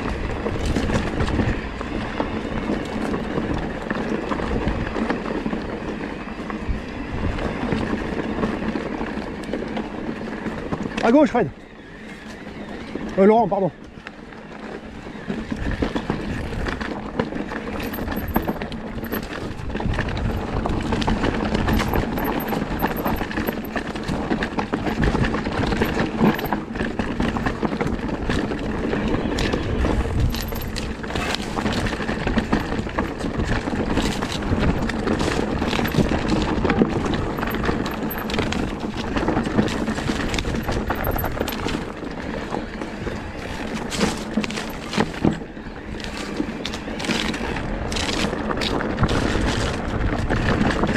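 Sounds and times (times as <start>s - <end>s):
bike knocking and rattling: 0.0s - 50.9s
tyres rolling on dirt and stones: 0.0s - 50.9s.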